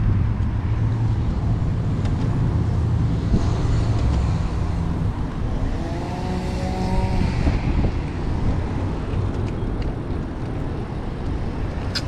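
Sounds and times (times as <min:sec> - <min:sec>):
low wind rumble: 0:00.0 - 0:12.0
road traffic: 0:00.0 - 0:12.0.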